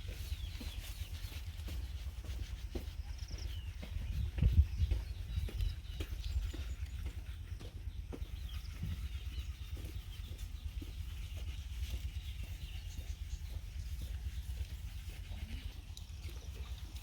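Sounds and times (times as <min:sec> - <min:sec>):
faint bird calls: 0:00.0 - 0:17.0.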